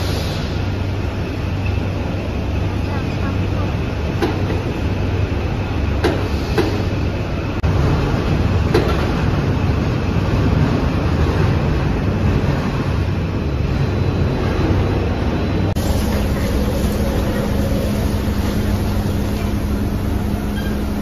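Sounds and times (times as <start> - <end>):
factory machinery rumbling: 0.0 - 21.0.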